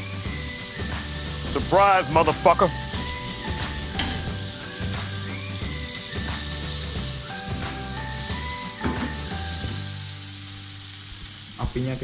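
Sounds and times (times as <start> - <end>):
background music with bass notes: 0.0 - 10.4
faint sizzle from a pan: 0.0 - 12.0.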